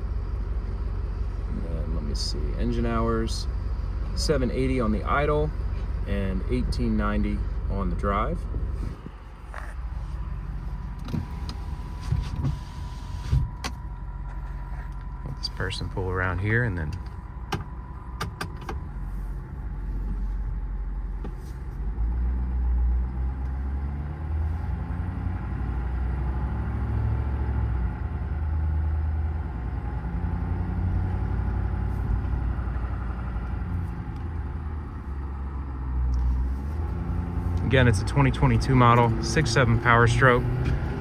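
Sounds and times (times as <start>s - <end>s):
road noise: 0.0s - 41.0s
truck engine drone: 0.0s - 41.0s.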